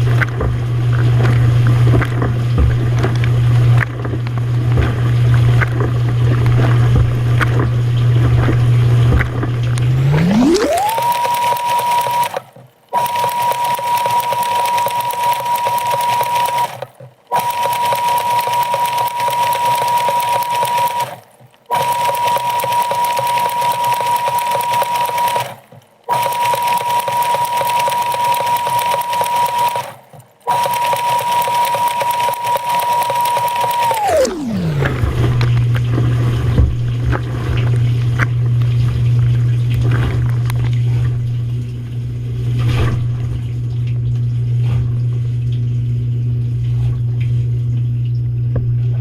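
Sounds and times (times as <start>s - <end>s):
dishwasher pump whine: 0.0s - 12.4s, 13.0s - 25.4s, 30.5s - 49.0s.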